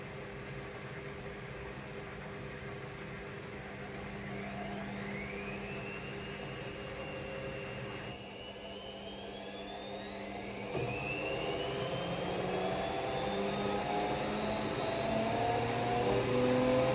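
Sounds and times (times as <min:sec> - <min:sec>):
washing machine motor whine: 0:00.0 - 0:16.9.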